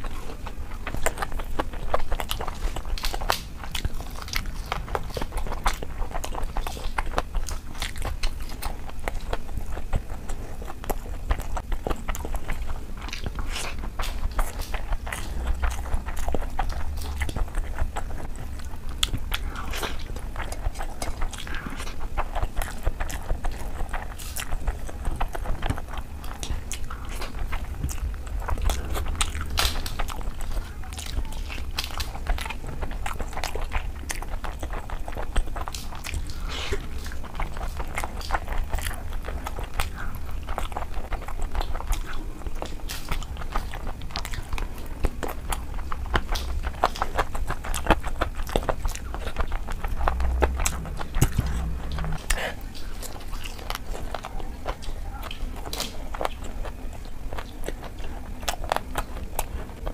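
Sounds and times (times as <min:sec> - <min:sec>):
crunchy food being chewed: 0:00.0 - 0:59.9.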